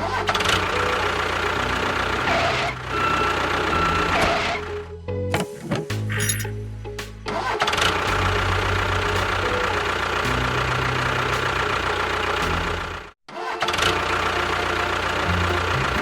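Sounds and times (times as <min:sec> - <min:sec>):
engine running: 0:00.0 - 0:05.0, 0:06.8 - 0:16.0.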